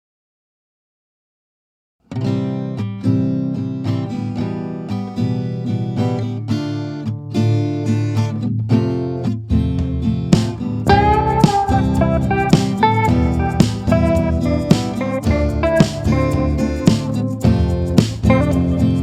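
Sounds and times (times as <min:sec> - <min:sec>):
acoustic guitar strumming: 0:02.1 - 0:19.0.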